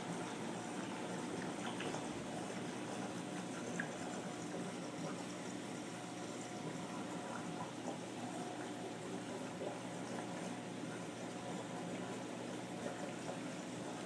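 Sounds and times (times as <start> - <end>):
faint steady hum: 0.0 - 14.0
water bubbling and trickling: 0.0 - 14.0.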